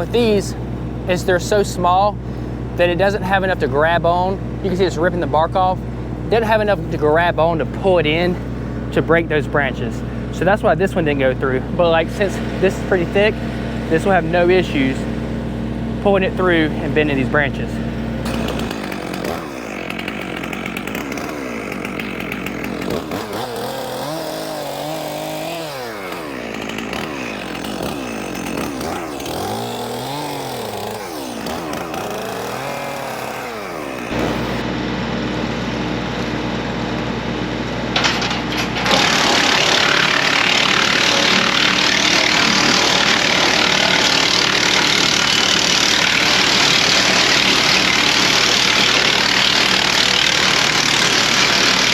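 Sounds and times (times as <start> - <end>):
wood chipper chewing branches: 0.0 - 51.9.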